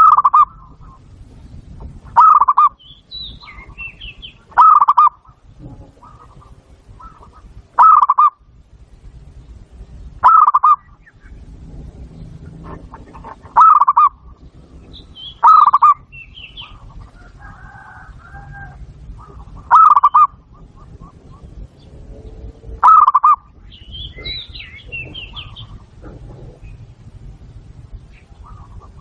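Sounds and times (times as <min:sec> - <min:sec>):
dove cooing: 0:00.0 - 0:01.1, 0:02.1 - 0:08.4, 0:10.2 - 0:11.0, 0:12.5 - 0:27.2, 0:28.2 - 0:29.0
small birds chirping: 0:00.0 - 0:29.0.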